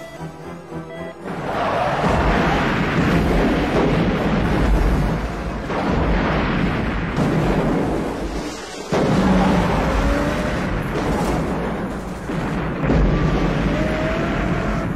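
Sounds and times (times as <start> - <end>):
large explosions rumbling: 1.4 - 14.9.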